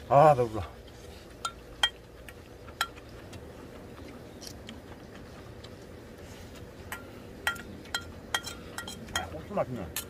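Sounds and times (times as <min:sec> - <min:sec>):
person chewing: 0:00.6 - 0:09.3.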